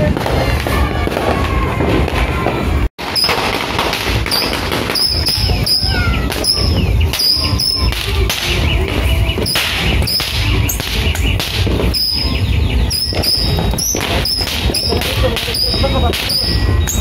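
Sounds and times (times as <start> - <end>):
firework missiles whistling: 0.0 - 17.0
sharp firework pops: 0.0 - 17.0.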